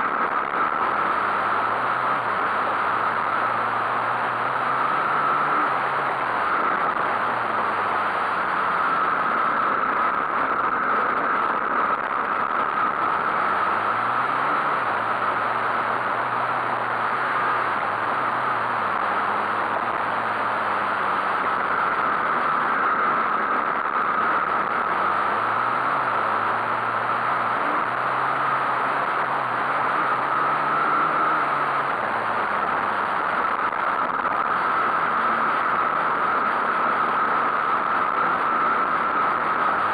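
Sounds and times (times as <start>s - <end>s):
dirt bike engine revving: 0.0s - 11.1s, 12.1s - 39.9s
steady rushing noise: 0.0s - 39.9s.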